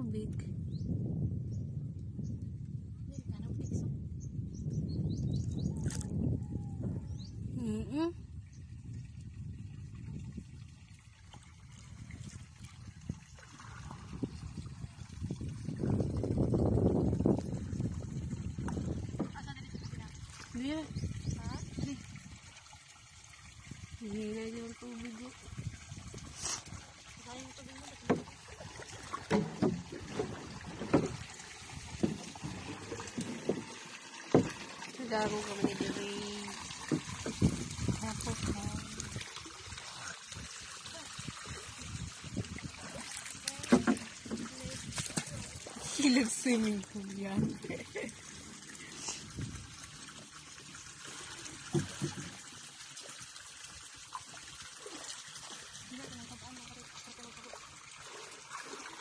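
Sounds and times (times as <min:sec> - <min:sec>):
low wash of water: 0:06.4 - 0:59.0
sharp water splashes: 0:10.9 - 0:59.0.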